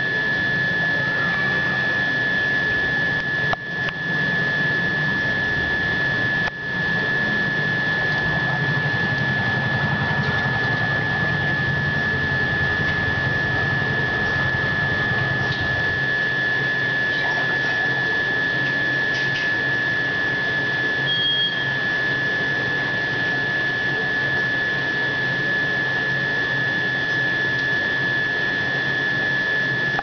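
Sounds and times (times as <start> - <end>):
high-pitched whine: 0.0 - 30.0
machine hiss and hum: 0.0 - 30.0.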